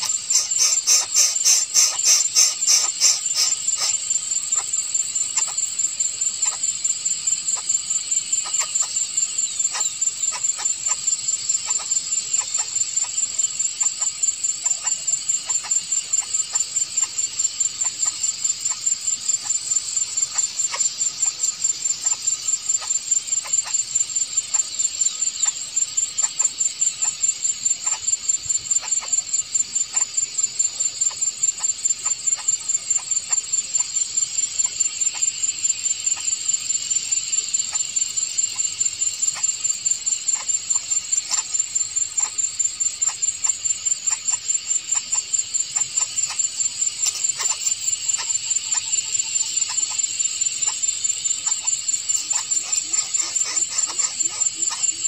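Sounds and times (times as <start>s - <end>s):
insect chirping: 0.0s - 55.0s.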